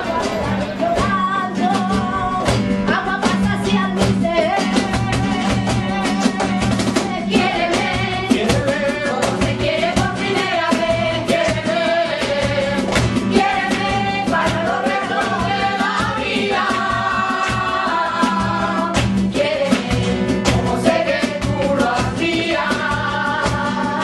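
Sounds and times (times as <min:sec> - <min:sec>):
steady drum beat: 0:00.0 - 0:24.0.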